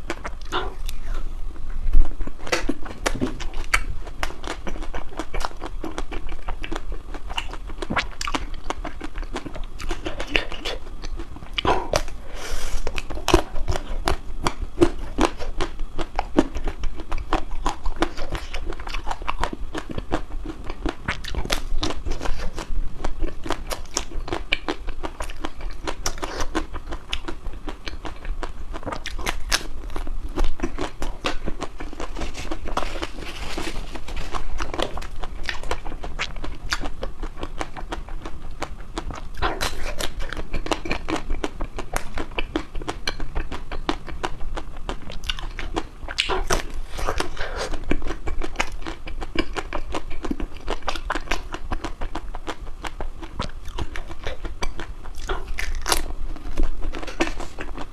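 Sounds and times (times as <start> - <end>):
crunching crispy ice cream: 0.0 - 57.9.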